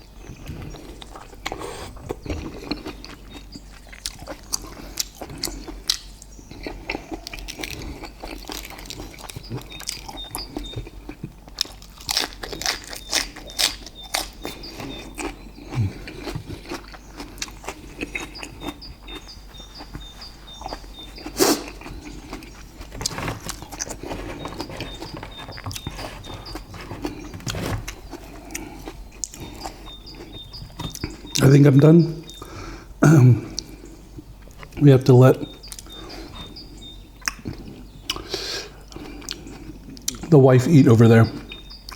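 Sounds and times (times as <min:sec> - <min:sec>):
chewing and mouth smacks: 0:00.2 - 0:31.4, 0:35.4 - 0:40.3.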